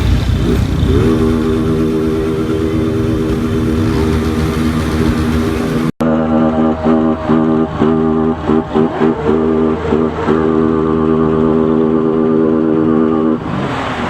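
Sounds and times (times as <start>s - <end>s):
motorcycle engine running: 0.0s - 13.1s
wind and road rumble: 0.0s - 14.0s.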